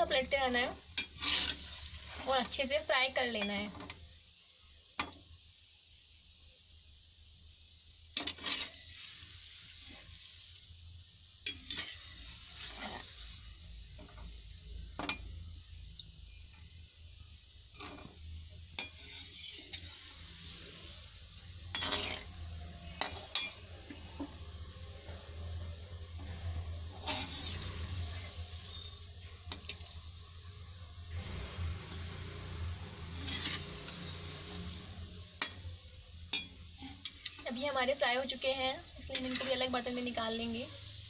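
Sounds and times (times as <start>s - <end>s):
dough deep-frying in oil: 0.0s - 41.0s
metal spoon scraping a pan: 0.1s - 4.0s, 8.1s - 10.5s, 11.4s - 15.4s, 17.7s - 30.5s, 31.1s - 41.0s.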